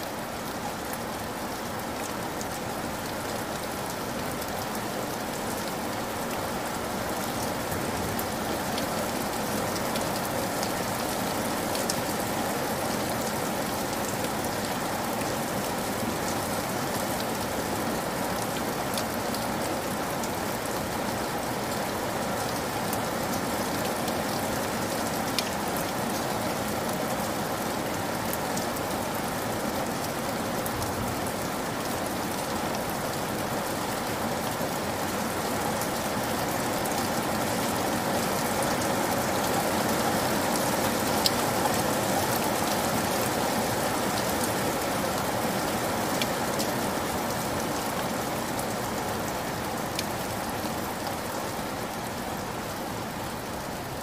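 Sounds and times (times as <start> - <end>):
heavy rain pouring on ground: 0.0 - 54.0.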